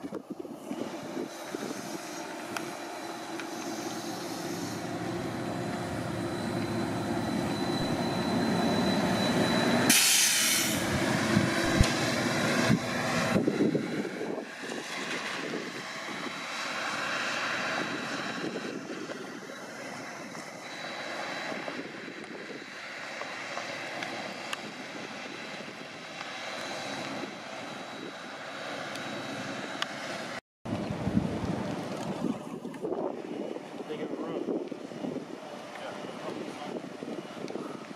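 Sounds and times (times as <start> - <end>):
trolleybus electric drive drone: 0.0 - 37.9.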